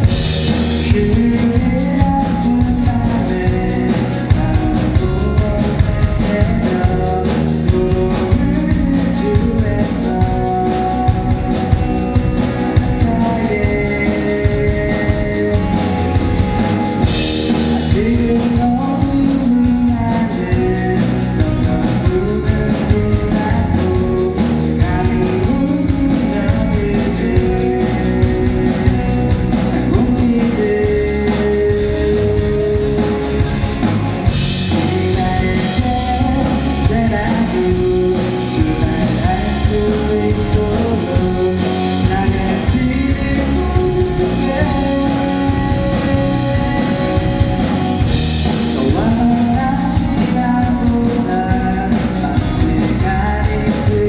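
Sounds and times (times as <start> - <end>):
live rock band playing: 0.0 - 54.0
person singing lead vocal: 0.0 - 54.0.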